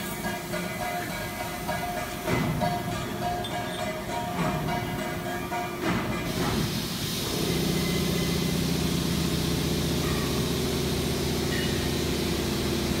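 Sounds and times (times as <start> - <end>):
welding machine humming and hissing: 0.0 - 13.0.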